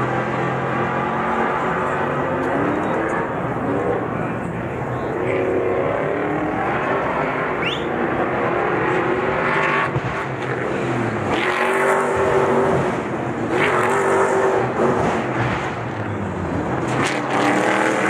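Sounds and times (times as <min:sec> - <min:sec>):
race truck engines revving: 0:00.0 - 0:18.0.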